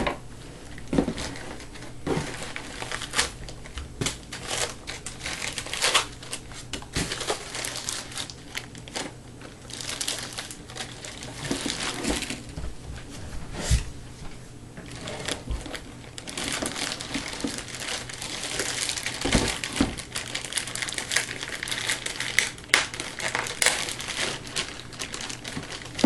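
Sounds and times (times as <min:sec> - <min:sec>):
packaging rustling and crinkling: 0:00.6 - 0:13.1, 0:14.8 - 0:26.0.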